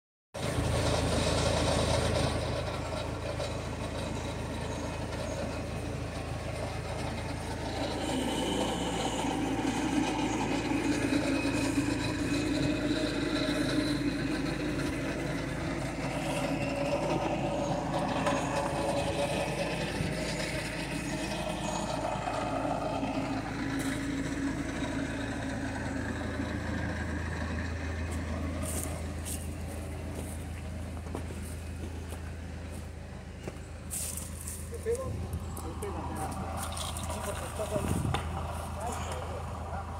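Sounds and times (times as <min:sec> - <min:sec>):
loader engine working: 0:00.4 - 0:39.9.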